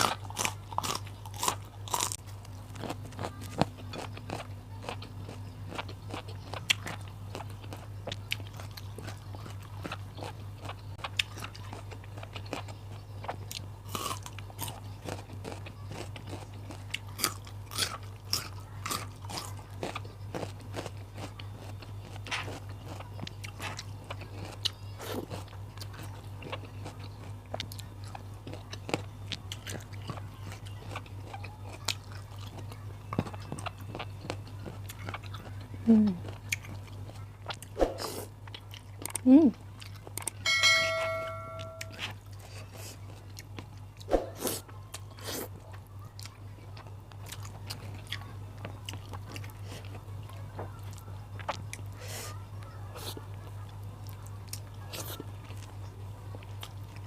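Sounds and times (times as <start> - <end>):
chewing crunchy raw vegetables: 0.0 - 40.5, 41.6 - 57.0
steady low hum: 0.0 - 57.0.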